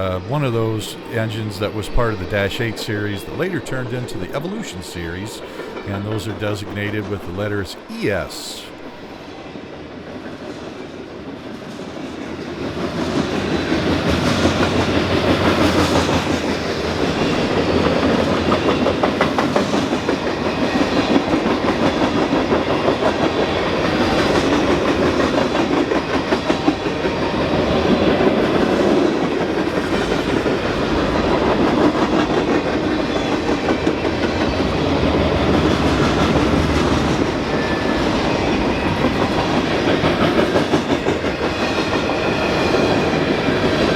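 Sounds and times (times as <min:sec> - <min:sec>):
freight train rumbling past: 0:00.0 - 0:43.9.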